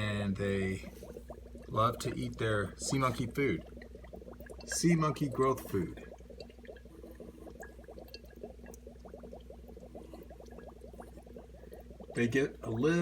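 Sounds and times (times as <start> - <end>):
bubbles gurgling in water: 0.0 - 13.0
steady low hum: 0.0 - 13.0.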